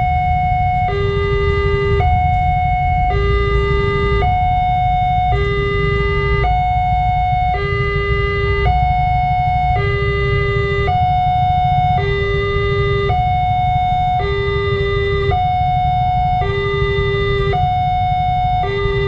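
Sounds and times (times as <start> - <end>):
steady low rumble: 0.0 - 18.6
level crossing two-tone siren: 0.0 - 19.0.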